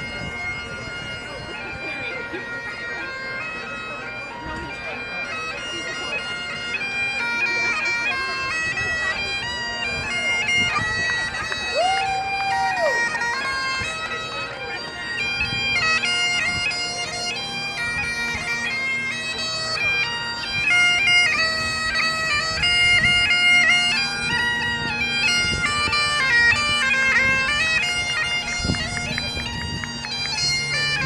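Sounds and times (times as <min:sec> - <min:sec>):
bagpipes playing marching tune: 0:00.0 - 0:31.0.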